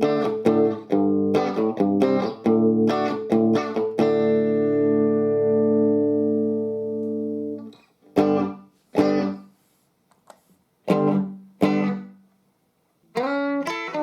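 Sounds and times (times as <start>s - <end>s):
electric guitar chords and notes: 0.0s - 9.5s, 10.9s - 12.2s, 13.1s - 14.0s.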